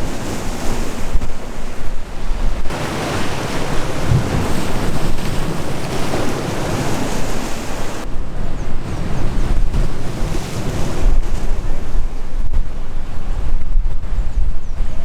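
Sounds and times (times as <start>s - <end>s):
waves breaking on shore: 0.0s - 14.5s
wind buffeting microphone: 0.0s - 15.0s.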